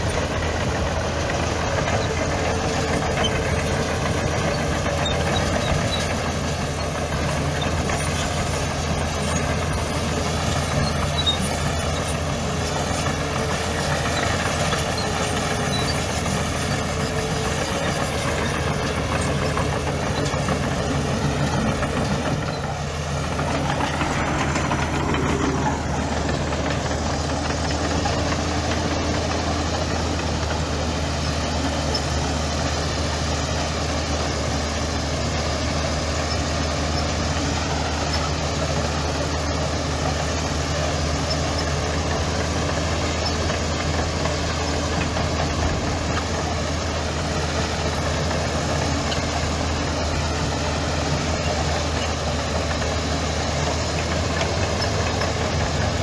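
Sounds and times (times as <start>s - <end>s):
heavy machinery diesel engine running: 0.0s - 56.0s.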